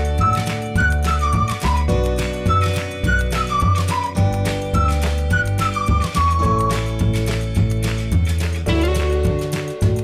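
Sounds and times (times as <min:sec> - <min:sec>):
instrumental pop music: 0:00.0 - 0:10.0.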